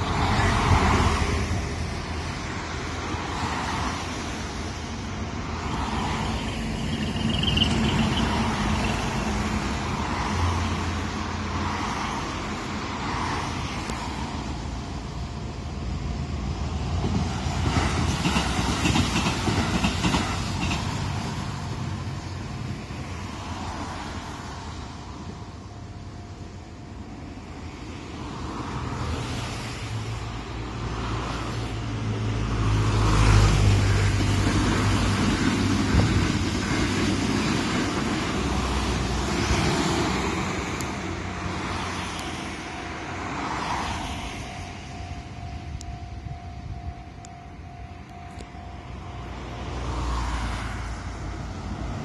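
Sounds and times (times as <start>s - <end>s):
rumble of passing trains and traffic: 0.0s - 52.0s.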